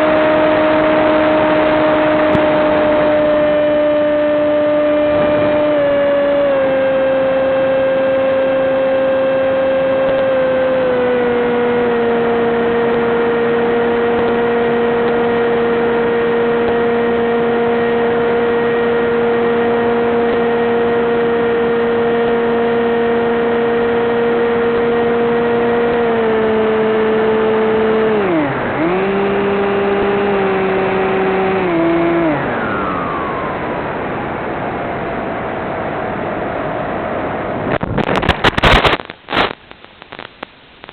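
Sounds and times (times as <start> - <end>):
electric motor and propeller drone: 0.0 - 34.5.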